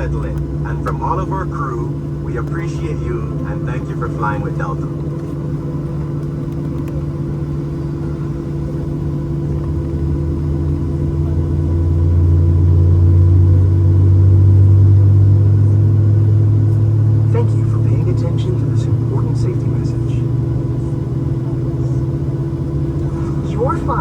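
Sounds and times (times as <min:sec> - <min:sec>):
airplane cabin engine hum: 0:00.0 - 0:24.0.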